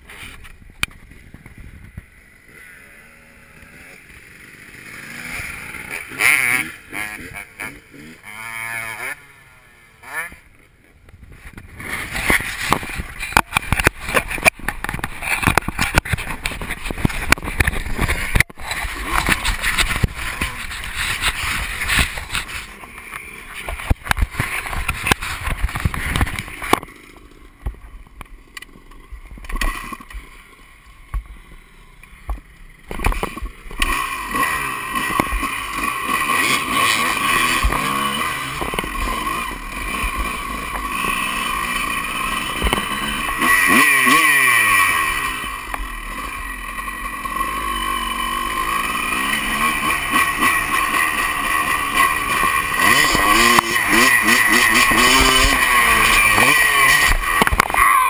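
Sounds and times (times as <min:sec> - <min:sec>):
dirt bike engine revving: 0:00.9 - 0:10.6, 0:11.4 - 0:27.8, 0:28.4 - 0:58.0.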